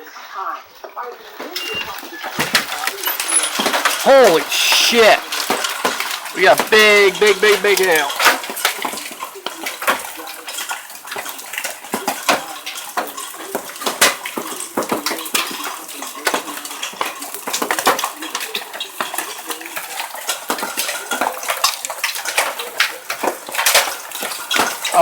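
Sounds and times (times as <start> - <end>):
hailstones pelting hard surfaces: 1.9 - 25.0.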